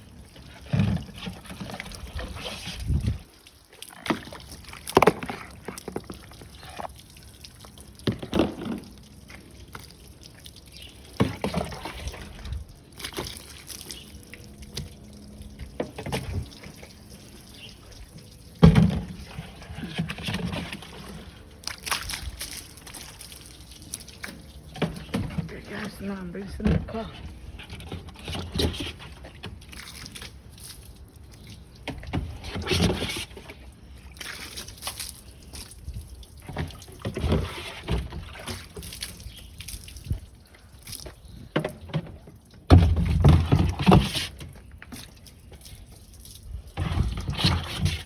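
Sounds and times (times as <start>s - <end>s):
water splashing and sloshing: 0.0s - 48.0s.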